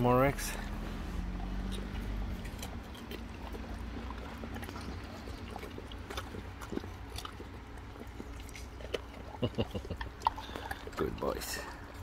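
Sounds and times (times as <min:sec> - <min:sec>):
dogs chewing watermelon: 0:00.0 - 0:12.0.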